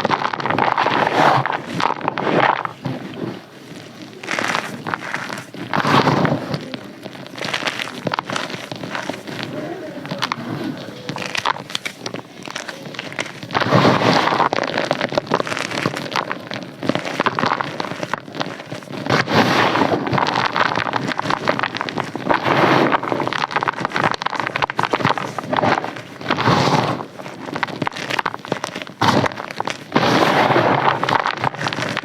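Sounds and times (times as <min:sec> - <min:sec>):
dense crackly crunching: 0:00.0 - 0:32.0.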